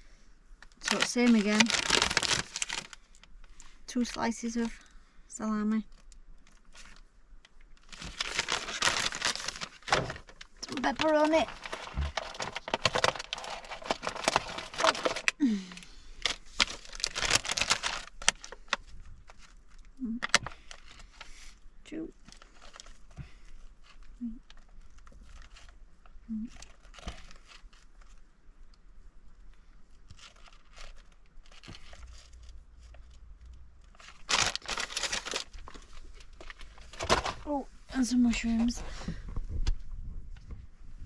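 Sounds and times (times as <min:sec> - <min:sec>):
food packaging crinkling: 0:00.6 - 0:04.9, 0:05.9 - 0:21.6, 0:22.2 - 0:28.2, 0:29.9 - 0:37.5.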